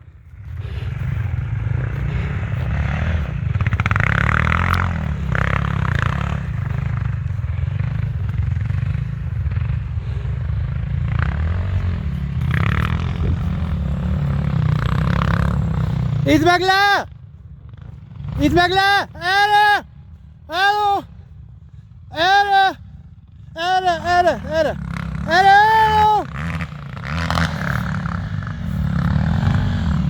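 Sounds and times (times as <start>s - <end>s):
motorcycle engine revving: 0.0s - 20.5s, 23.1s - 30.0s.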